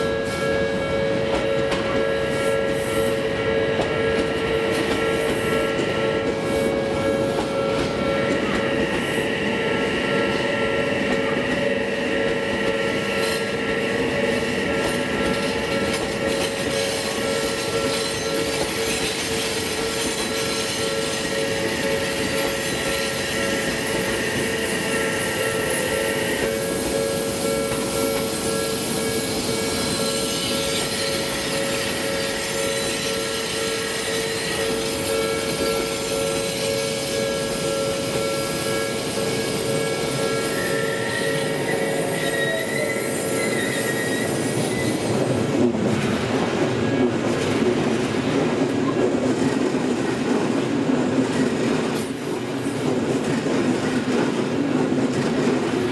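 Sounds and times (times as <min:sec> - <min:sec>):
level crossing alarm ringing: 0:00.0 - 0:47.1
electric trains passing: 0:00.0 - 0:55.9.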